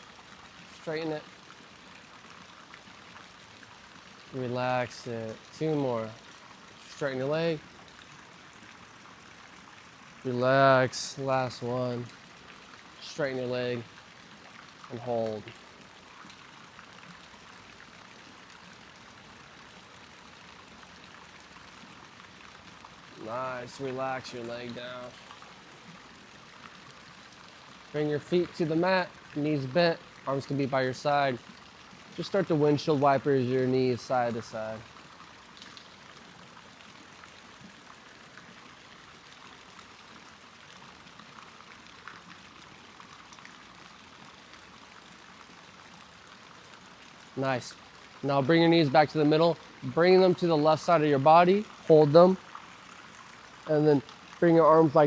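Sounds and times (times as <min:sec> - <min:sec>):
faint background hiss: 0:00.0 - 0:55.0.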